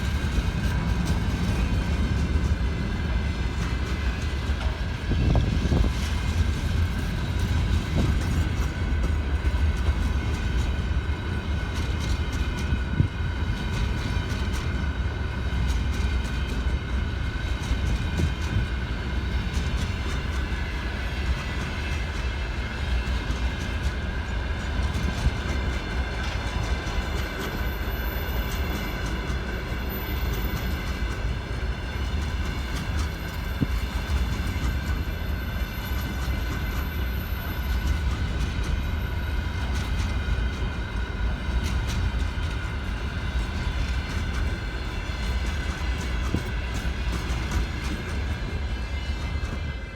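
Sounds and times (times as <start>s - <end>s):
freight train rumbling past: 0.0s - 49.9s
train wheels clicking: 0.0s - 49.9s.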